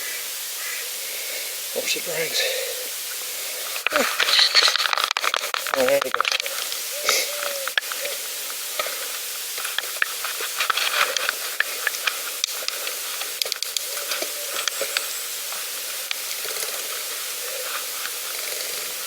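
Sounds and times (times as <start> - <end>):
bicycle tyre hiss: 0.0 - 19.0
small clicks and crackles: 3.1 - 19.0.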